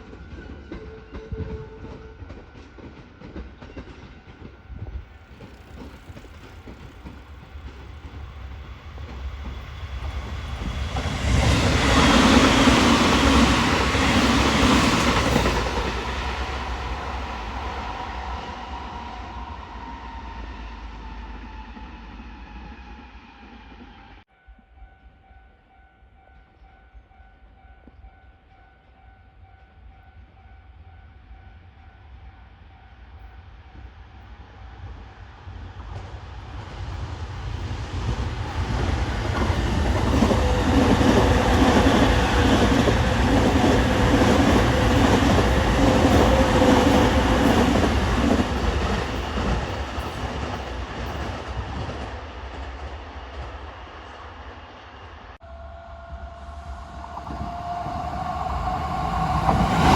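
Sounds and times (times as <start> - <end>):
electric train passing: 0.0 - 25.4, 29.4 - 59.9.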